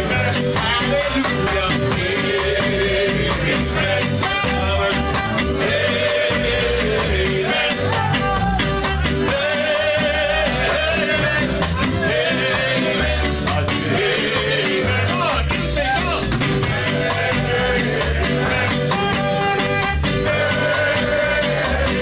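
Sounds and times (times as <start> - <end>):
live ska band playing: 0.0 - 22.0.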